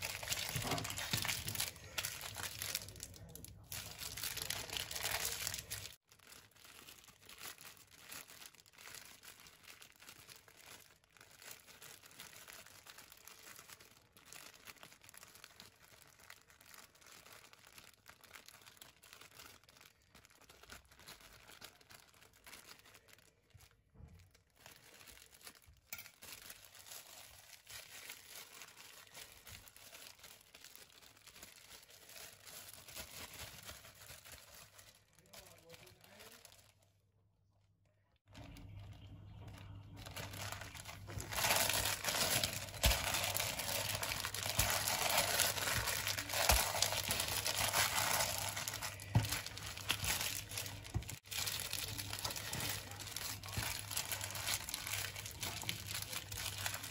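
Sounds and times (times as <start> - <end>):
plastic bags crinkling: 0.0 - 36.8, 38.3 - 56.9.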